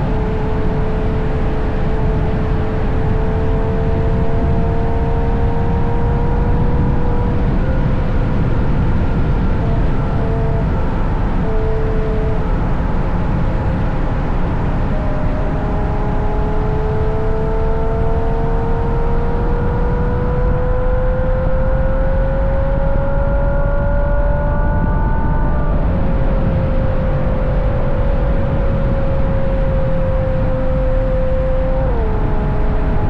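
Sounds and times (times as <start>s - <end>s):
car engine accelerating: 0.0s - 33.0s
road rumble: 0.0s - 33.0s
wind on microphone: 0.0s - 33.0s.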